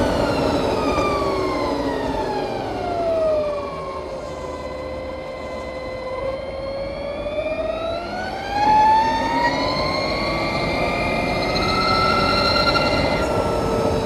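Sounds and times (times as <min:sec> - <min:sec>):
electric motorcycle whine: 0:00.0 - 0:14.0
wind and tyre noise: 0:00.0 - 0:14.0.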